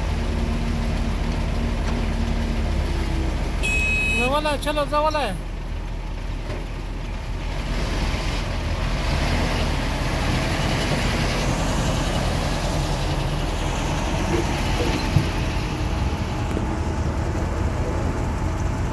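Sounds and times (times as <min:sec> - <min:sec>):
heavy diesel engines rumbling: 0:00.0 - 0:18.9.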